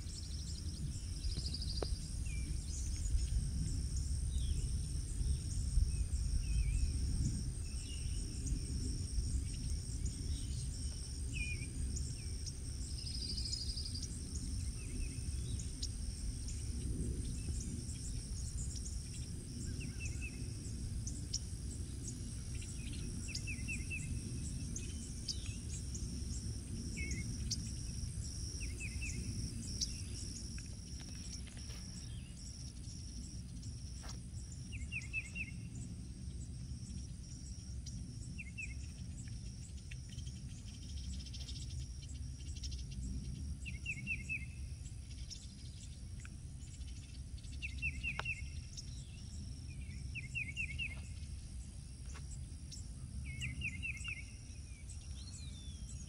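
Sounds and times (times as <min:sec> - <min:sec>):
insects buzzing: 0:00.0 - 0:56.0
low steady rumble: 0:00.0 - 0:56.0.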